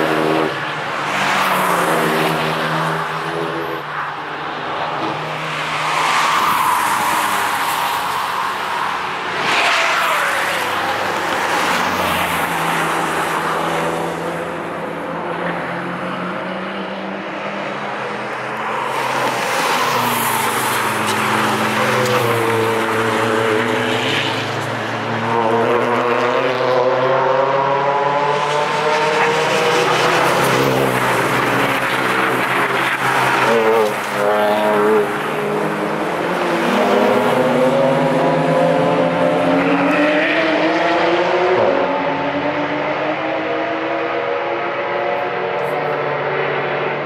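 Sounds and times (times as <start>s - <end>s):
race cars accelerating: 0.0s - 47.0s.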